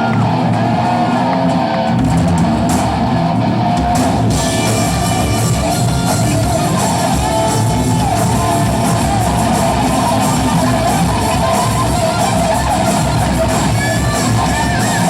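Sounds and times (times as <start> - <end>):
bass guitar: 0.0 - 15.0
drums and cymbals: 0.0 - 15.0
electric guitar: 0.0 - 15.0.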